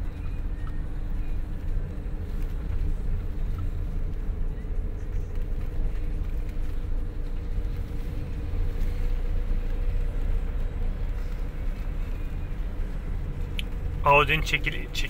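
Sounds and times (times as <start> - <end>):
car rumbling in motion: 0.0 - 15.0.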